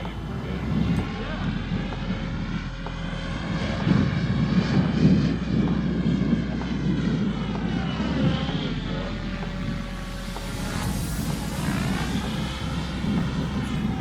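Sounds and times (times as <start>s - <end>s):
rc helicopter rotor whine: 0.0s - 14.0s
wind buffeting microphone: 0.0s - 14.0s.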